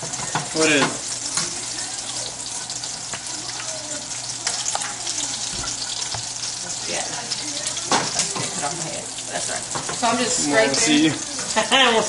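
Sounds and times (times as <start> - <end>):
onion sizzling in a skillet: 0.0 - 12.0.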